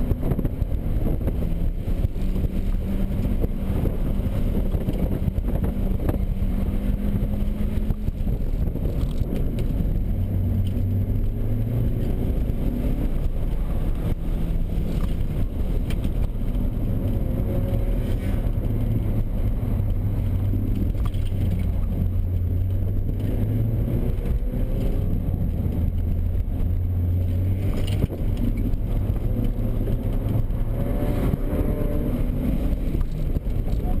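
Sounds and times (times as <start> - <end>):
car engine accelerating and shifting: 0.0 - 34.0
road noise: 0.0 - 34.0.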